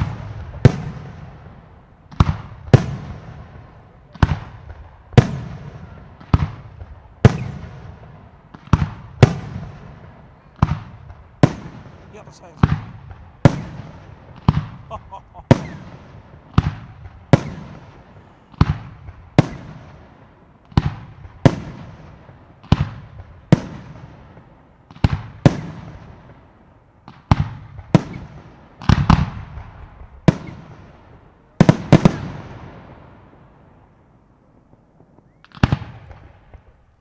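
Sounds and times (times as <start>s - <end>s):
fireworks bangs with rumbling tail: 0.0s - 37.0s.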